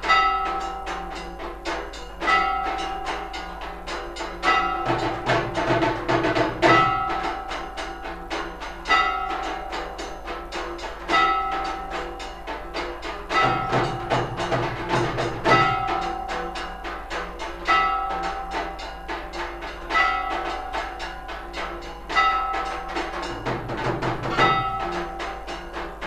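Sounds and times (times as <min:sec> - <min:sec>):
rapid drum and clanging beats: 0:00.0 - 0:26.0.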